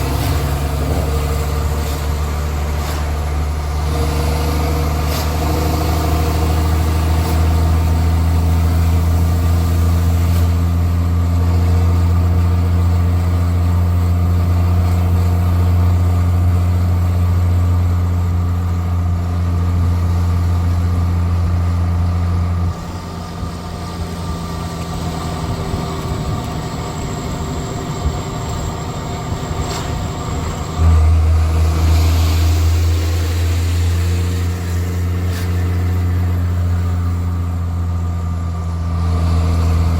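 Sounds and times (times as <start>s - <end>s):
diesel engine exhaust drone: 0.0s - 39.9s.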